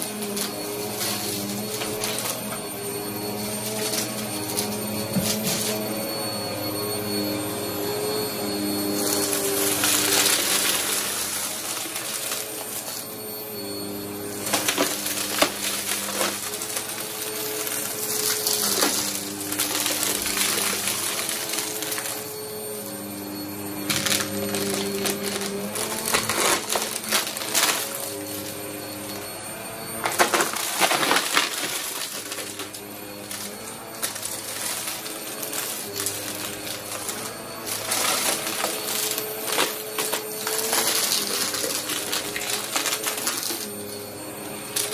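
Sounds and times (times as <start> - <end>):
vacuum cleaner hum: 0.0 - 44.9
debris rattling up vacuum nozzle: 7.3 - 29.2, 29.9 - 44.9.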